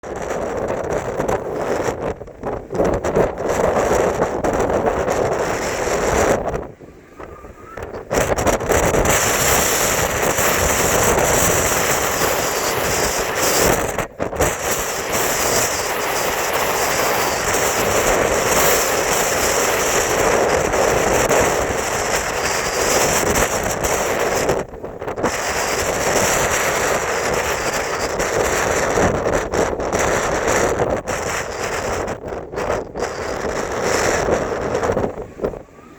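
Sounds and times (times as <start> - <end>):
strong wind buffeting microphone: 0.0 - 35.9.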